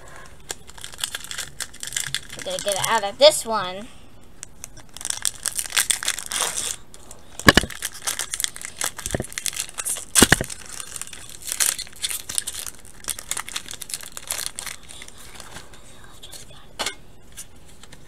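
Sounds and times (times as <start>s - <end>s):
foil wrapper crinkling and tearing: 0.4s - 3.4s, 4.4s - 16.4s.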